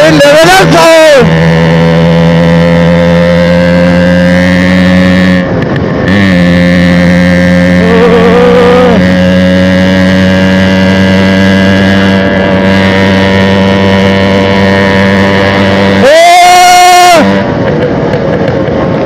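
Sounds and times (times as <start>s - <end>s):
two-stroke engine revving: 0.0s - 18.7s.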